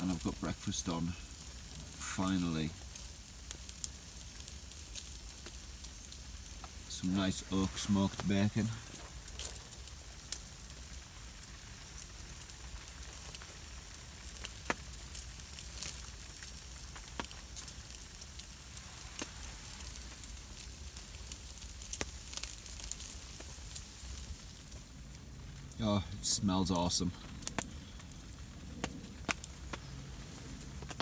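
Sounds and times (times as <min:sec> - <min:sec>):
bacon sizzling on a grill: 0:00.0 - 0:31.0
campfire crackling: 0:00.0 - 0:31.0.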